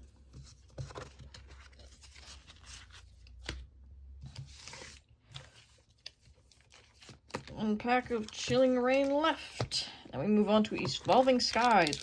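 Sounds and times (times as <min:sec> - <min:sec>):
cards and wrappers rustling: 0:00.0 - 0:12.0.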